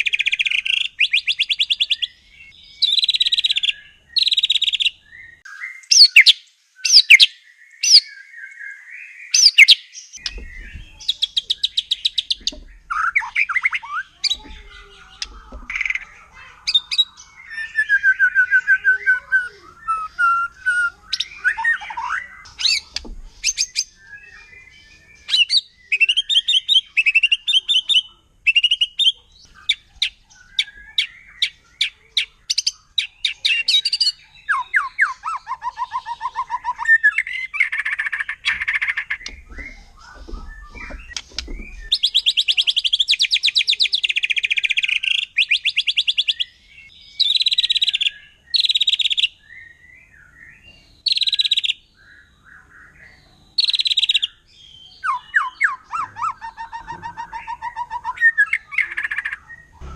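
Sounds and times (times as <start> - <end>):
songbird singing varied song: 0.0 - 59.9.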